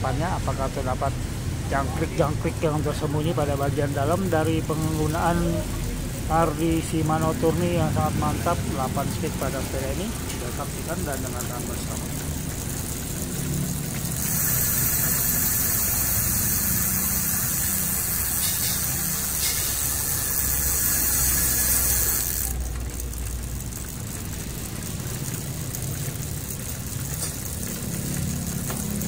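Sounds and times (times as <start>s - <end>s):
bicycle freewheel ratchet clicking: 0.0s - 29.0s.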